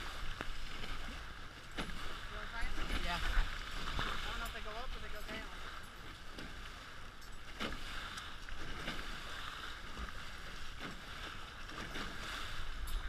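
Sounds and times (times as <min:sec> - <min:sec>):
water rushing along boat hull: 0:00.0 - 0:13.0
water splashes: 0:00.0 - 0:13.0.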